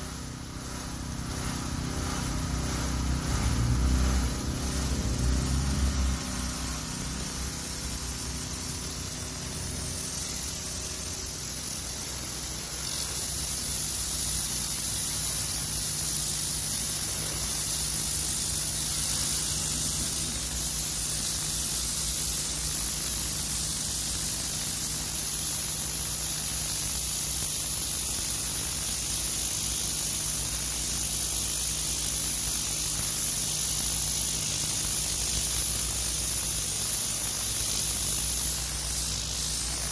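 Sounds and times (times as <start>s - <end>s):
pressure washer spraying concrete: 0.0s - 39.9s.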